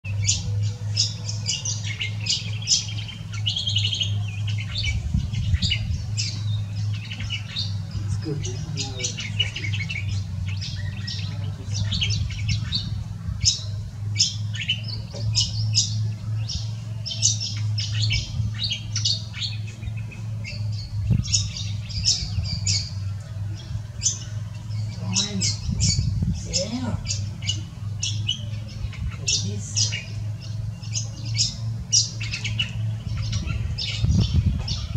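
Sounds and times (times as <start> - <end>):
birds chirping and squeaking: 0.0 - 34.9
steady low hum: 0.0 - 34.9.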